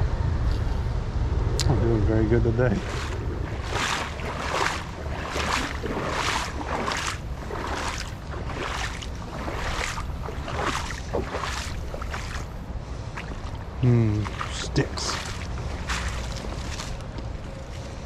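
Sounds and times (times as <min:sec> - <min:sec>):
low steady rumble: 0:00.0 - 0:18.0
footsteps on fallen leaves: 0:02.7 - 0:18.0.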